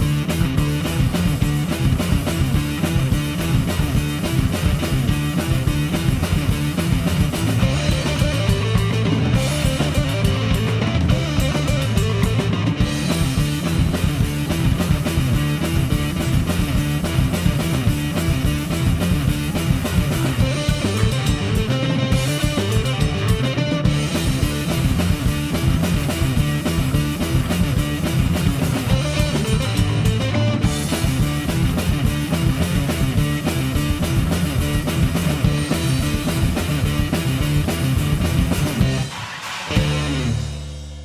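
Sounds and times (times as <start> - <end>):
bass guitar: 0.0 - 41.0
drum kit: 0.0 - 41.0
electric guitar: 0.0 - 41.0.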